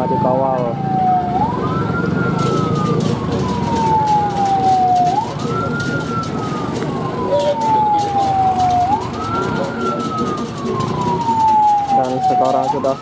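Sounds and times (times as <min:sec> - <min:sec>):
street and engine noise: 0:00.0 - 0:13.0
wailing siren: 0:00.0 - 0:13.0.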